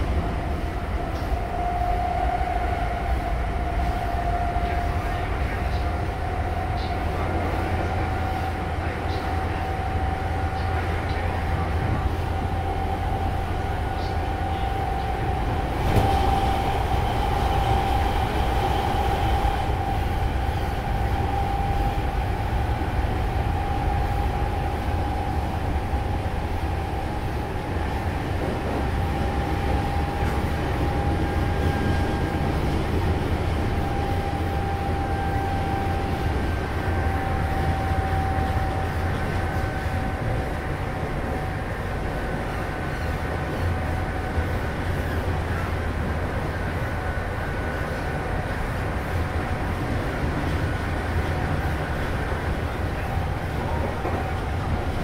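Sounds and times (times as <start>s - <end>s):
electric train drive whine: 0.0s - 55.0s
wheels rumbling on rails: 0.0s - 55.0s.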